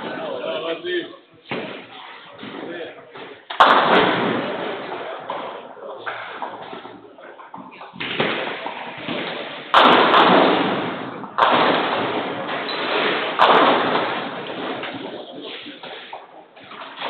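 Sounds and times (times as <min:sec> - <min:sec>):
bowling balls hitting lanes: 0:01.4 - 0:17.0.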